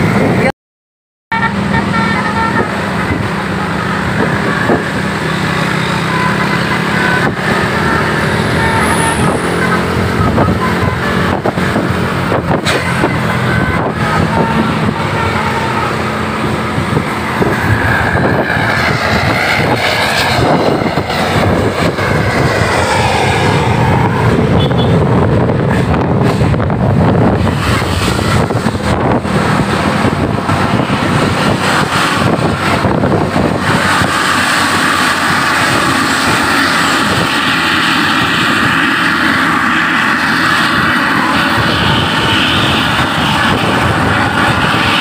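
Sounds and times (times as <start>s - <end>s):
bus diesel engine running: 1.3s - 45.0s.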